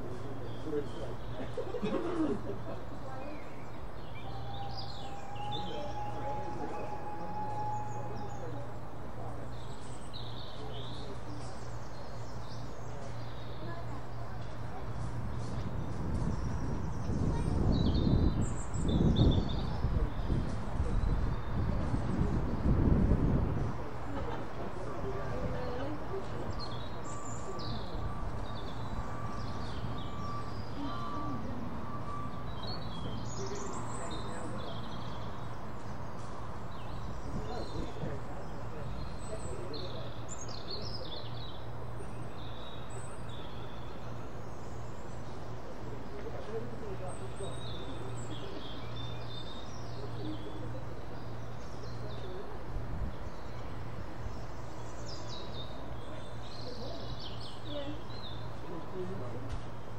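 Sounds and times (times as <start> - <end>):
low background noise: 0.0 - 59.9
small birds chirping: 7.9 - 22.9, 24.8 - 59.9.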